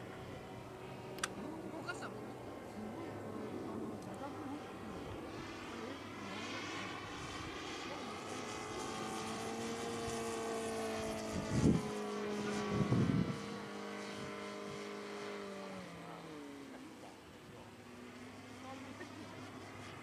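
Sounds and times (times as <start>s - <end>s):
model airplane engine running: 0.0s - 20.0s.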